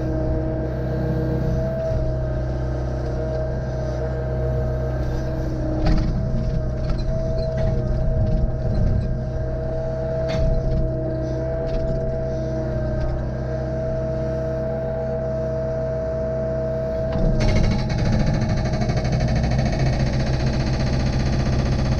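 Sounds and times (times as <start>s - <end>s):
excavator diesel engine: 0.0s - 21.9s
hydraulic whine: 0.0s - 21.9s.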